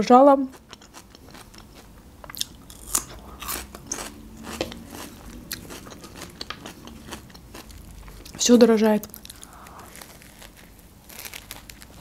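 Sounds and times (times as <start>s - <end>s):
crunchy cucumber chewing: 0.4s - 8.4s, 9.0s - 12.0s.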